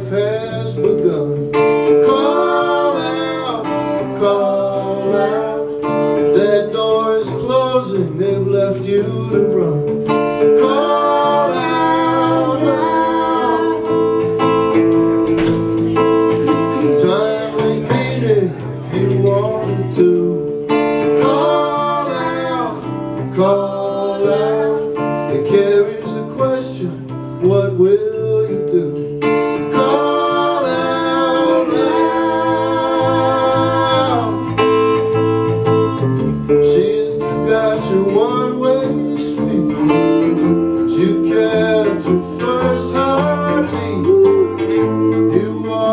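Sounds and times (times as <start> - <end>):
man singing: 0.0 - 15.7, 16.4 - 35.2, 35.8 - 45.9
electric guitar chords: 0.0 - 45.9.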